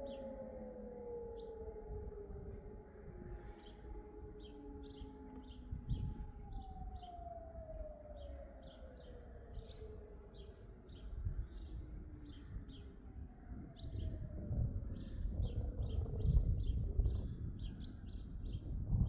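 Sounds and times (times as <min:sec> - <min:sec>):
distant electronic siren: 0:00.0 - 0:19.0.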